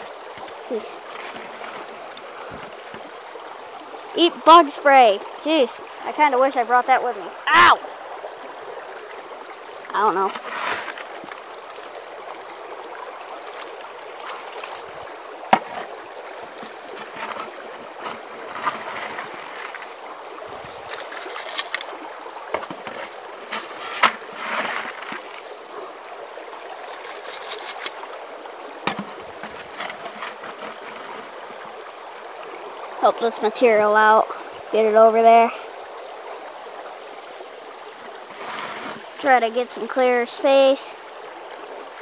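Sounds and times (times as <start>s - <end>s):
water rushing through sluice box: 0.0s - 42.0s.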